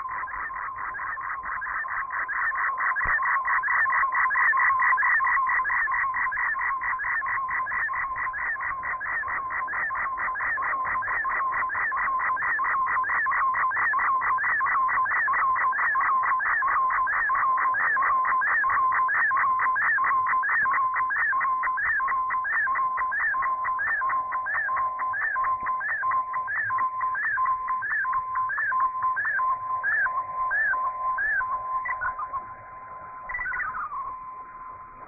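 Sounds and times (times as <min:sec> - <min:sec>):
steady whistle: 0:00.0 - 0:35.0
warbling digital data tones: 0:00.0 - 0:35.0.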